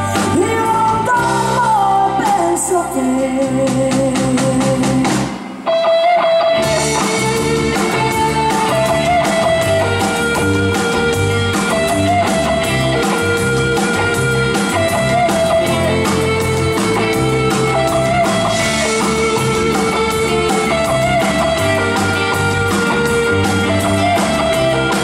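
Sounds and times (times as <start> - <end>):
bass and drums: 0.0 - 5.8, 6.4 - 25.0
electric guitar melody: 0.0 - 25.0.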